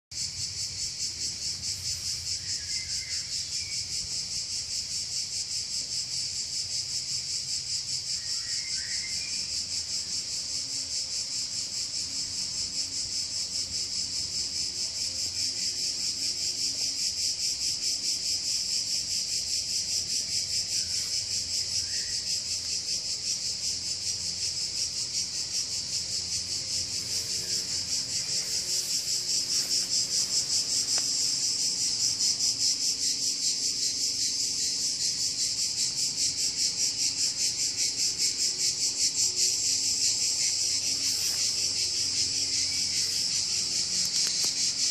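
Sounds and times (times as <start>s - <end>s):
insects trilling: 0.1s - 44.9s.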